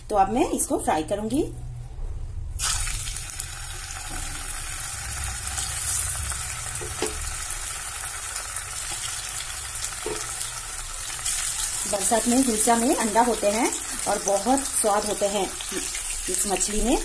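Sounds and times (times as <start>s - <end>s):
fish sizzling in hot oil: 2.6s - 17.0s.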